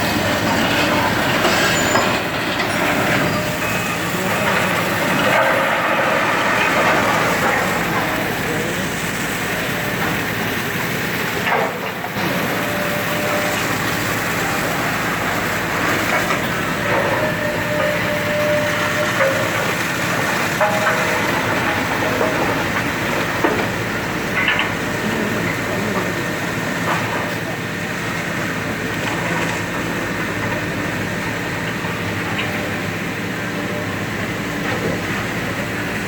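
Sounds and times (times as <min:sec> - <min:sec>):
demolition machinery rumble and clatter: 0:00.0 - 0:36.0.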